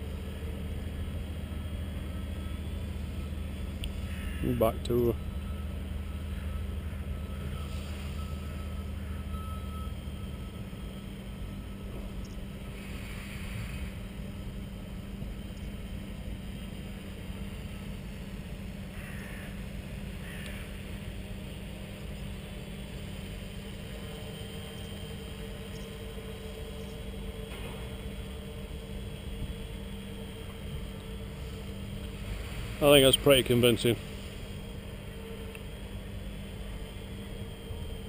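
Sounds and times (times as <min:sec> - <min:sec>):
drone propellers humming: 0:00.0 - 0:38.0.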